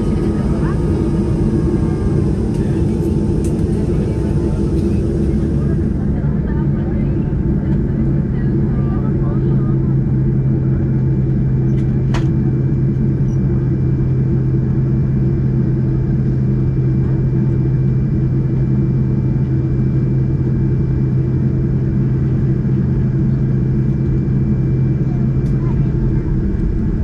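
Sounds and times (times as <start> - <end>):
high engine whine: 0.0 - 27.0
jet engine drone: 0.0 - 27.0.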